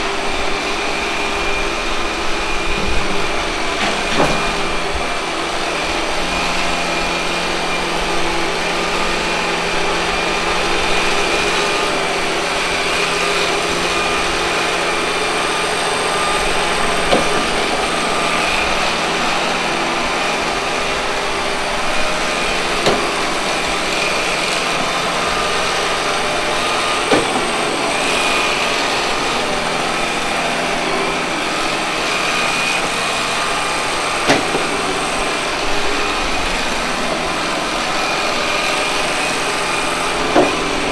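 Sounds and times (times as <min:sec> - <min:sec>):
robot vacuum whirring: 0:00.0 - 0:40.9.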